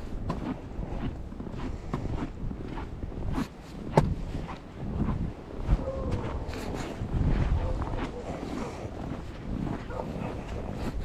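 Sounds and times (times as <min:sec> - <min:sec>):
footsteps on snow: 0:00.0 - 0:11.0
wind rumble on microphone: 0:00.0 - 0:11.0.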